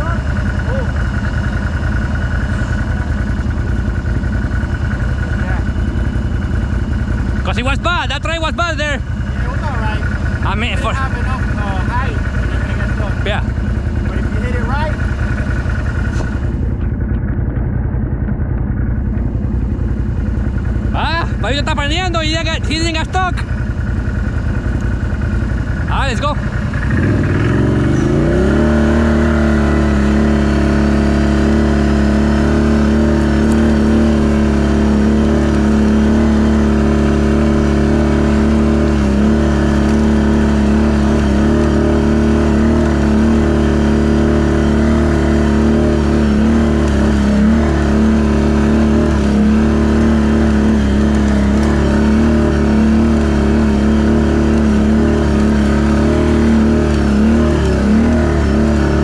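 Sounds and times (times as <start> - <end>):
quad bike engine pulling away: 0.0 - 59.0.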